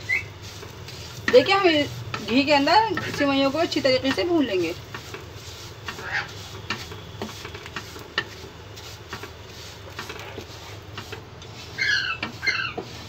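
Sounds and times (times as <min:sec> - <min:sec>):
spatula scraping a pan: 0:00.0 - 0:13.0.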